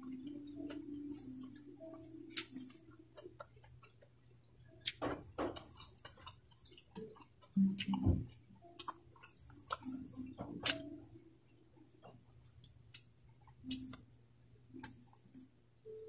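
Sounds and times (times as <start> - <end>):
chewing with wet clicks: 0.0 - 16.0.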